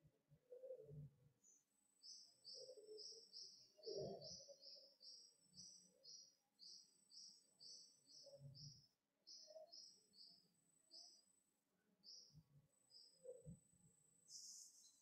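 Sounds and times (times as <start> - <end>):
faint high chirps: 1.4 - 11.3, 12.0 - 15.0.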